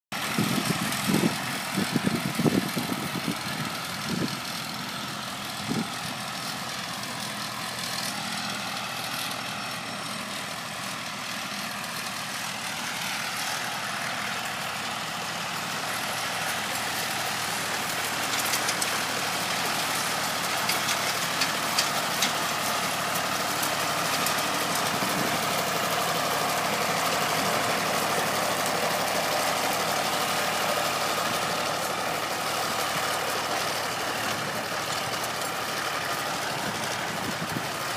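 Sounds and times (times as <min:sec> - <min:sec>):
diesel tractor engine running: 0:00.1 - 0:37.9.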